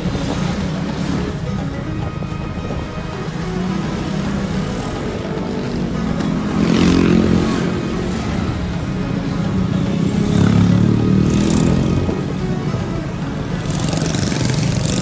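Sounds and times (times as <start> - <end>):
motorbike engines passing: 0.0 - 15.0.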